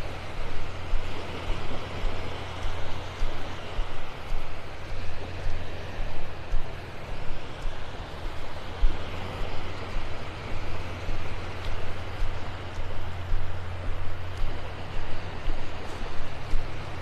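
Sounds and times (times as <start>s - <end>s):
shallow surf washing: 0.0s - 17.0s
wind buffeting microphone: 0.0s - 17.0s.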